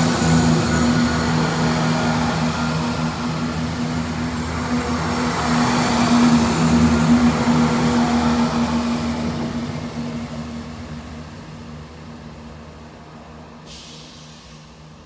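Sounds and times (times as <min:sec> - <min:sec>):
electric train passing: 0:00.0 - 0:13.7
wheels rumbling on rail: 0:00.0 - 0:15.0.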